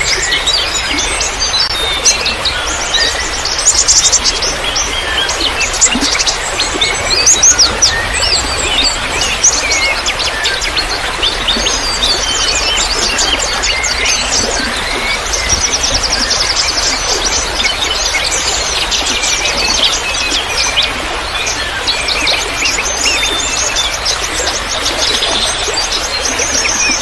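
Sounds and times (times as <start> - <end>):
songbirds chirping and twittering: 0.0 - 27.0
trickling water: 0.0 - 27.0.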